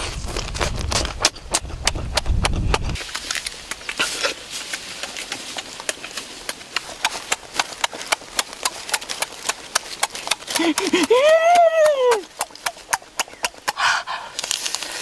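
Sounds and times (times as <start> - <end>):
wet chewing and lip-smacking: 0.1 - 15.0.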